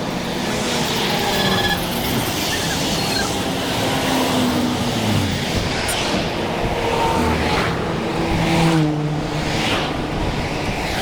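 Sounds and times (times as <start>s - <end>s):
cars passing close by: 0.0s - 11.0s.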